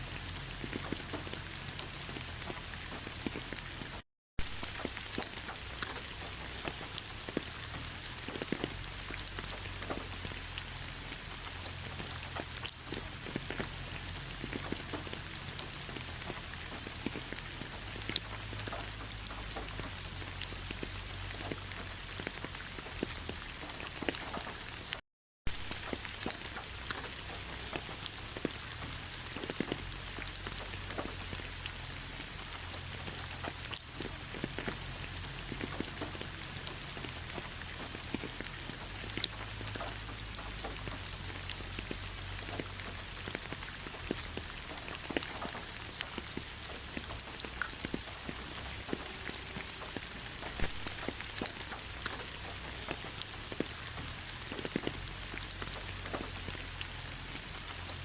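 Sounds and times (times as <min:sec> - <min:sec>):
rain on fallen leaves: 0:00.0 - 0:58.0.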